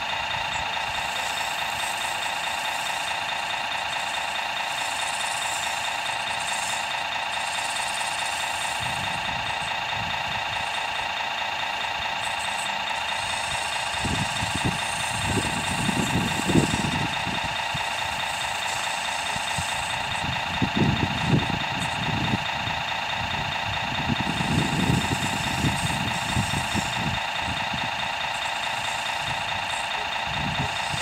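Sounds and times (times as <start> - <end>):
model machines mechanical drone: 0.0 - 31.0.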